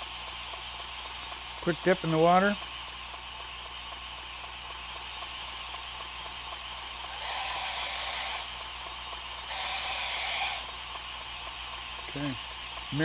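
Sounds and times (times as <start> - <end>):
belt grinder running: 0.0 - 13.0.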